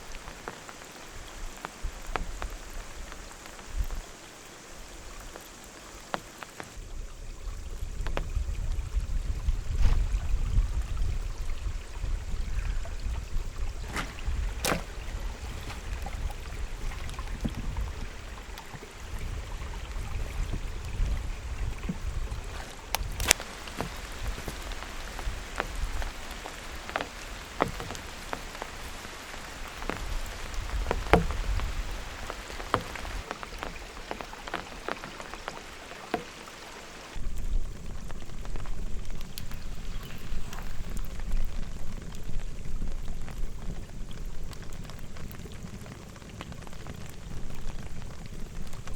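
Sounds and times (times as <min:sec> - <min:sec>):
heavy raindrops tapping: 0:00.0 - 0:06.8, 0:11.0 - 0:48.9.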